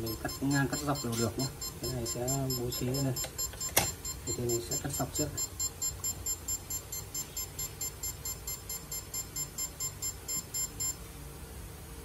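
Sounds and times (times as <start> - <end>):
short high beeps: 0.0 - 11.0.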